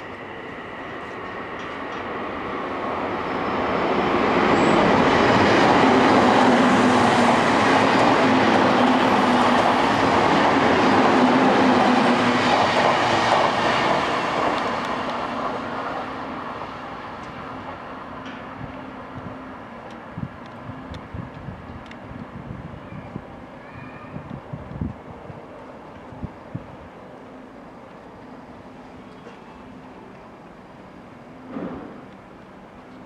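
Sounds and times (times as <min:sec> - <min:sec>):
wheels on rail running noise: 0:00.0 - 0:33.0.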